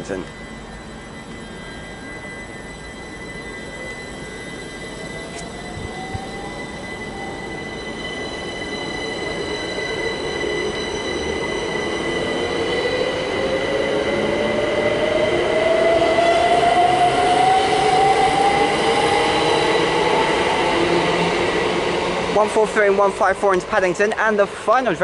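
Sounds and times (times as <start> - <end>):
electric train motor whine: 0.0 - 23.5
steady high-pitched tones: 0.0 - 25.0.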